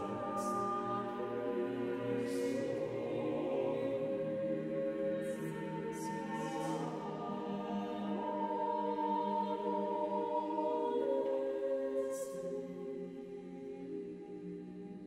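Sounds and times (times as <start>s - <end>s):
unaccompanied choir singing: 0.0s - 15.0s.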